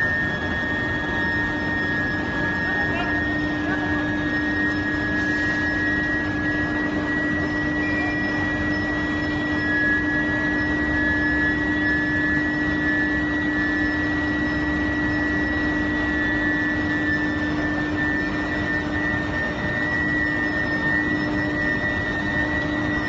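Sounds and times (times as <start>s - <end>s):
furnace hum: 0.0s - 23.0s
high steady whine: 0.0s - 23.0s.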